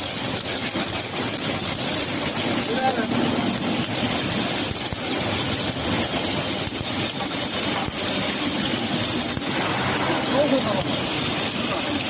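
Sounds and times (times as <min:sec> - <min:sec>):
welding arc hissing and crackling: 0:00.0 - 0:12.0.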